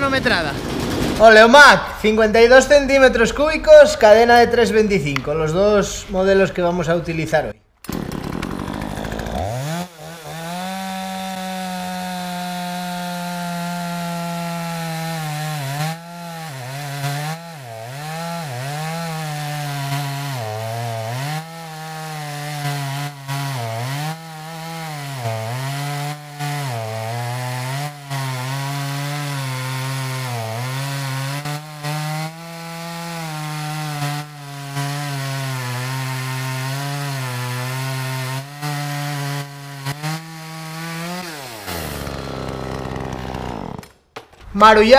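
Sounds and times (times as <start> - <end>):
chainsaw cutting through log: 0.0 - 3.0, 7.8 - 44.4.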